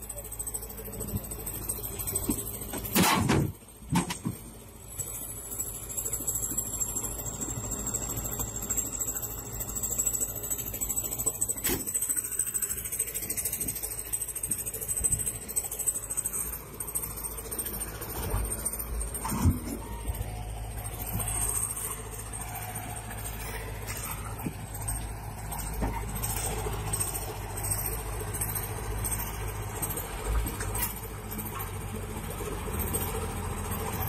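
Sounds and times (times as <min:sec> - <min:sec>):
heavy machinery running: 0:00.0 - 0:34.0.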